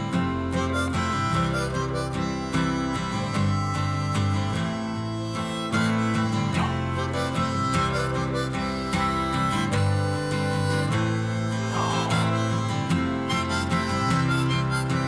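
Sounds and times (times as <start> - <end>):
harmonica playing: 0.0 - 15.0
strummed acoustic guitar: 0.0 - 15.0.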